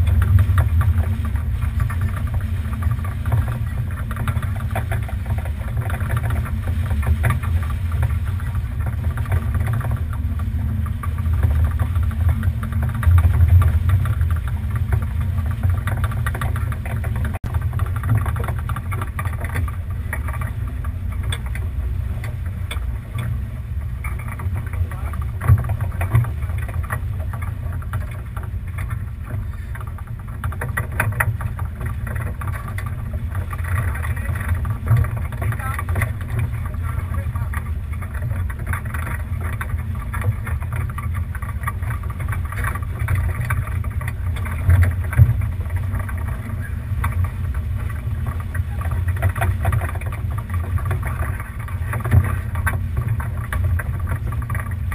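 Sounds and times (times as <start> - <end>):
water rushing along hull: 0.0 - 54.9
wind rumbling on microphone: 0.0 - 54.9.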